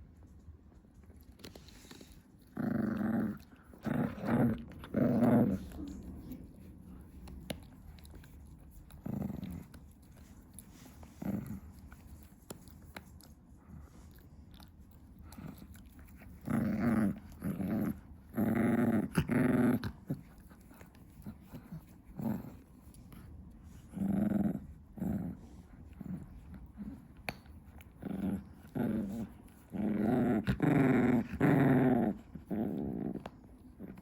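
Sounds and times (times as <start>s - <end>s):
dog growling: 1.8s - 6.3s, 8.8s - 11.8s, 14.1s - 34.0s.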